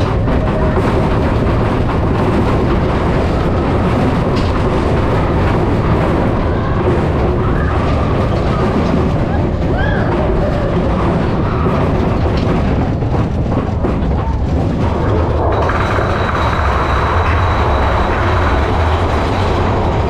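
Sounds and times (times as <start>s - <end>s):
roller coaster rumbling on track: 0.0s - 20.0s.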